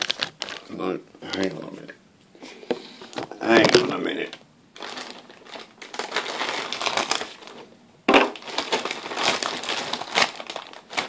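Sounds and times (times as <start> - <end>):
plastic bag crinkling: 0.0 - 1.9, 3.1 - 11.0.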